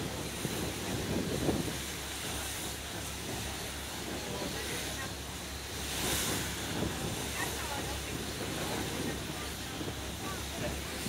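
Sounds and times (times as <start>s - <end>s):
boat engine drone: 0.0s - 11.0s
rushing water: 0.0s - 11.0s
wind: 0.0s - 11.0s.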